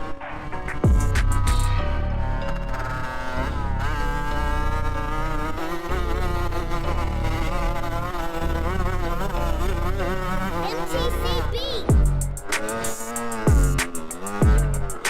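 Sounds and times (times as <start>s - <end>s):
dirt bike engine buzzing: 1.3s - 15.0s.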